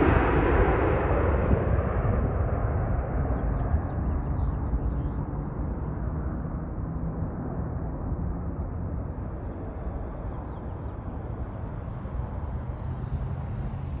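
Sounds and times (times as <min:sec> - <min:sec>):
distant jet engines rumbling: 0:00.0 - 0:14.0.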